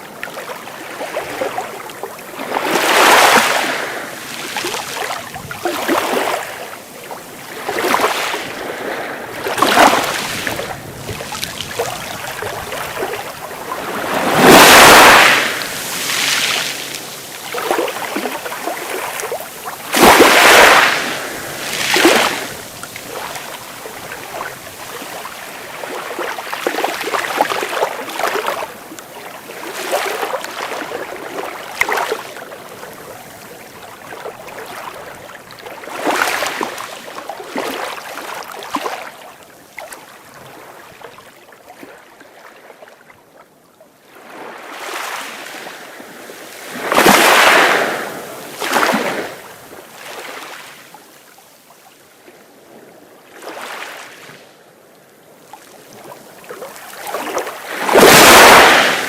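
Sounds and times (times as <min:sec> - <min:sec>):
sea waves breaking on shore: 0:00.0 - 0:43.1, 0:44.0 - 0:59.0.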